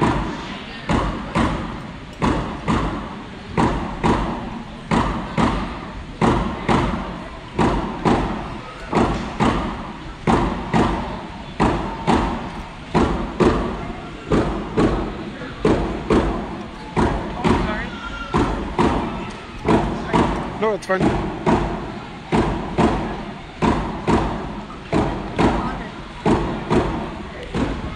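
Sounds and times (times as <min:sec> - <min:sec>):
hand drums beating with echo: 0:00.9 - 0:27.9.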